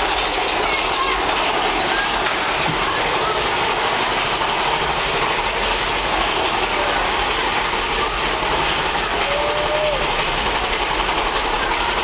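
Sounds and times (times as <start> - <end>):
roller coaster rattling on track: 0.0 - 12.0.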